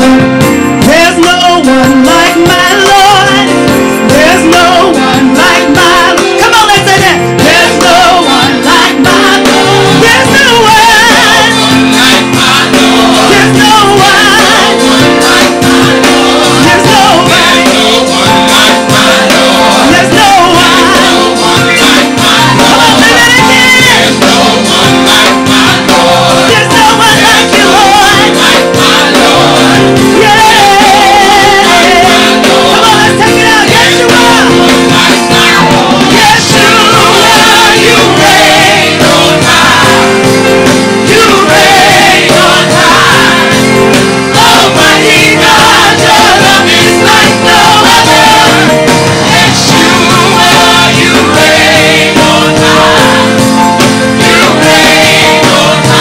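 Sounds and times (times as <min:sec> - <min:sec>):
gospel band playing: 0:00.0 - 0:56.0
voices singing: 0:00.0 - 0:56.0.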